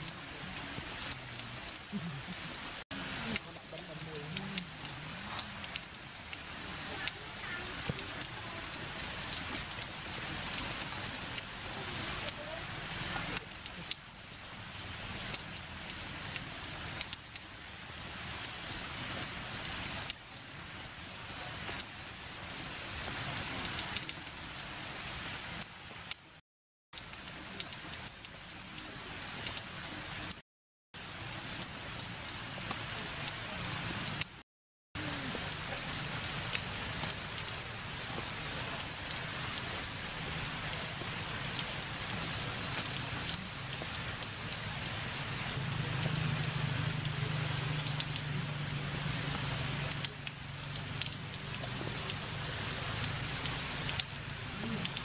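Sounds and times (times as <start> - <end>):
heavy rain on leaves and stone: 0.0 - 26.4, 27.0 - 30.4, 31.0 - 34.4, 35.0 - 55.0.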